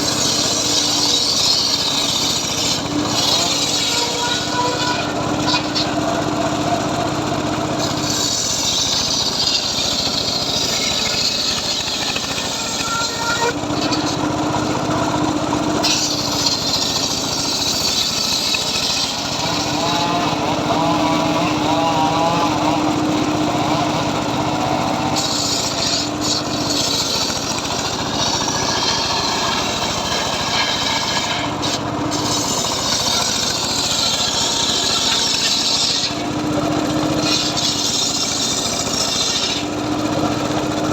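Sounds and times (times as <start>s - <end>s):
circular saw cutting logs: 0.0s - 40.9s.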